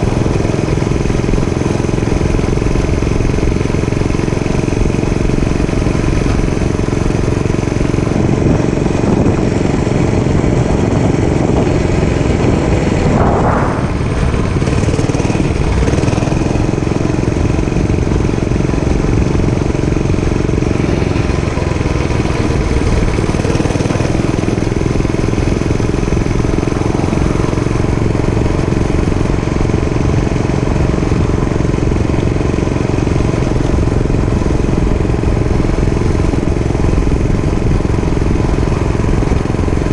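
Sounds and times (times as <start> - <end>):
dirt bike engine running: 0.0 - 39.9
low wind rumble: 0.0 - 39.9.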